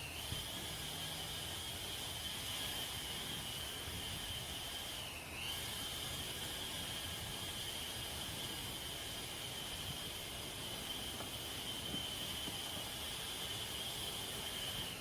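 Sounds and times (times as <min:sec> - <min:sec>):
high-pitched hiss: 0:00.0 - 0:15.0
thin whine: 0:00.0 - 0:15.0.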